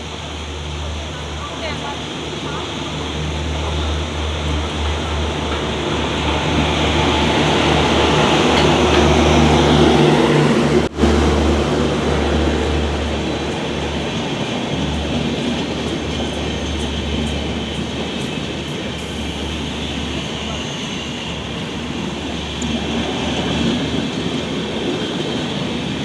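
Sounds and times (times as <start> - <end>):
electric train rumbling on track: 0.0 - 26.0.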